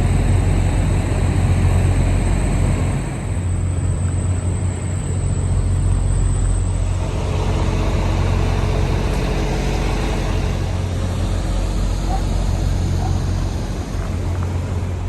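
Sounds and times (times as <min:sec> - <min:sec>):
truck engines idling: 0:00.0 - 0:15.0.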